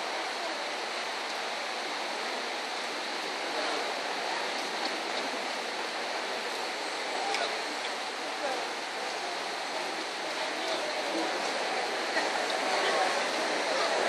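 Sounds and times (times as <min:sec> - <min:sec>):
rushing hall background noise: 0:00.0 - 0:14.0.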